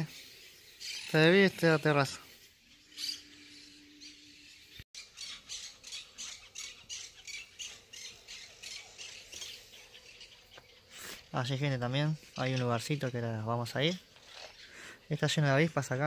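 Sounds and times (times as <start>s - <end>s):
birds squawking: 0.0s - 16.0s.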